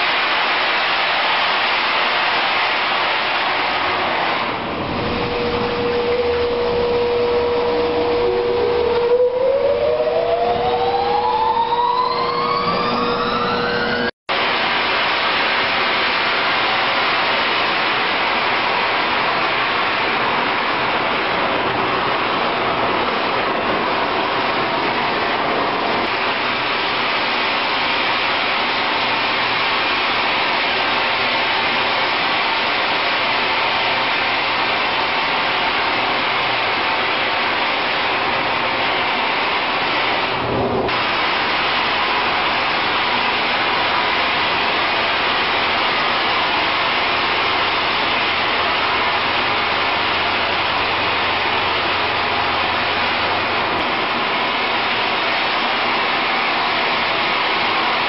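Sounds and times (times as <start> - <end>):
industrial vacuum roaring: 0.0 - 58.0
rising whine: 0.0 - 58.0
steady hum: 0.0 - 58.0.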